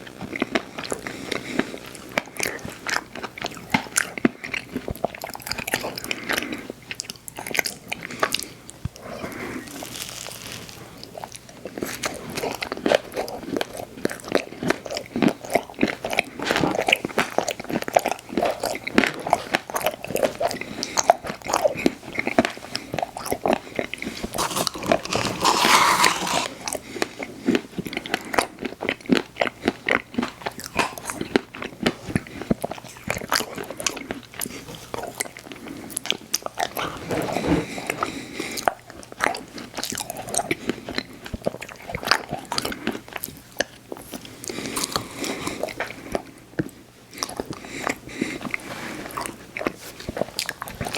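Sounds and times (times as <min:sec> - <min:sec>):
crunching while eating: 0:00.0 - 0:50.9
wet chewing: 0:00.2 - 0:50.9.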